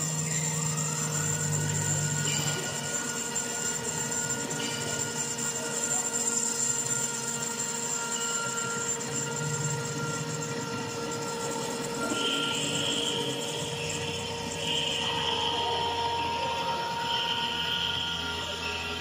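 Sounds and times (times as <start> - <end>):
cutter milling steel: 0.0 - 19.0
router spindle whine: 0.0 - 19.0.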